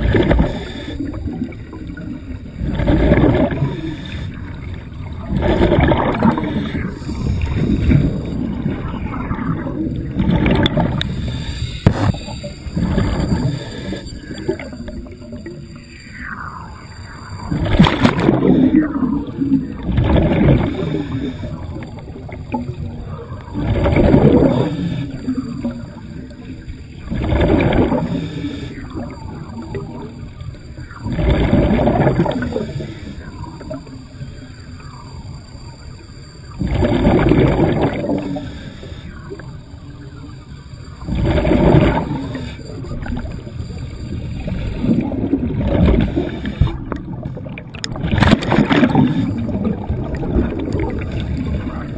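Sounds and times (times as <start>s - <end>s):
exhaled bubbles rumbling: 0.0s - 51.9s
scuba regulator underwater: 0.0s - 51.9s.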